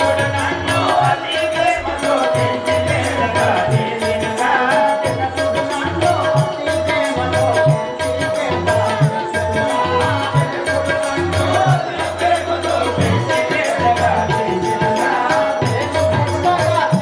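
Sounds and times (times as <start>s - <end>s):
jingling rattling percussion: 0.0s - 17.0s.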